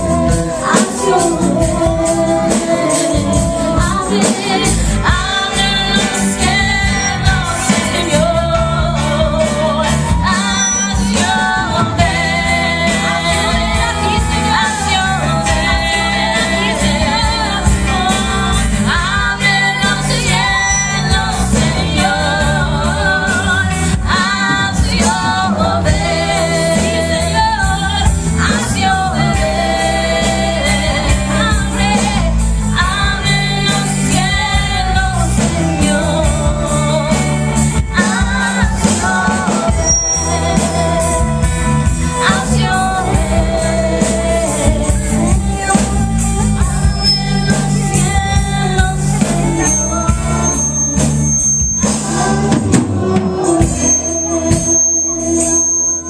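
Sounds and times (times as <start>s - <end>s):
band with bass drums guitar: 0.0s - 56.0s
women singing worship music: 0.0s - 56.0s.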